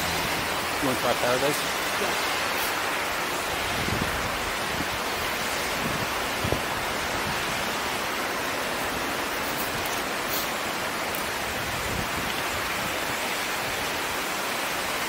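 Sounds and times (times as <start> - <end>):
wind rushing over microphone: 1.6 - 14.2.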